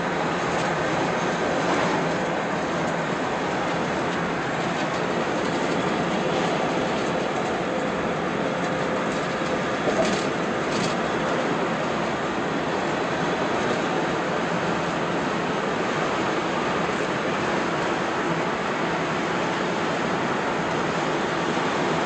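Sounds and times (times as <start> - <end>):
road and wind noise inside car: 0.0 - 22.0.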